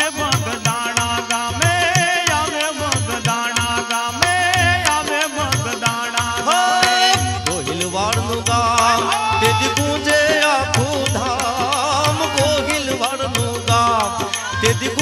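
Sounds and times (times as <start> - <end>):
steady drum rhythm: 0.0 - 15.0.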